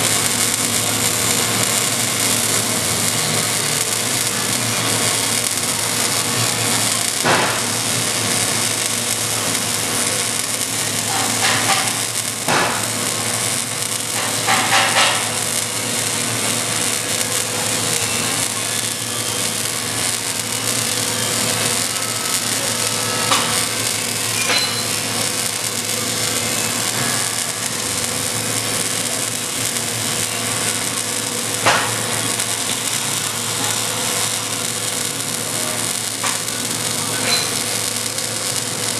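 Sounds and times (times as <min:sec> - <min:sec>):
welding arc hissing and popping: 0:00.0 - 0:38.9.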